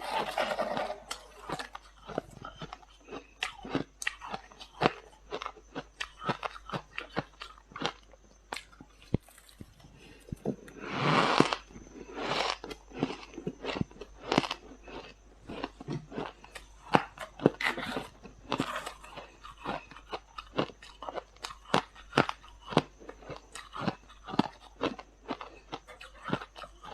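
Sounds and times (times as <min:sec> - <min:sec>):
frost being chewed: 0:00.0 - 0:26.9.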